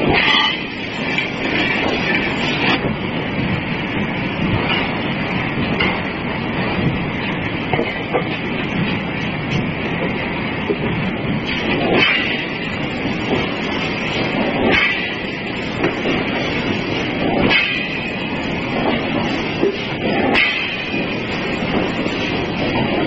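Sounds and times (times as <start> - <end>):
machinery rumbling and rattling: 0.0 - 23.0.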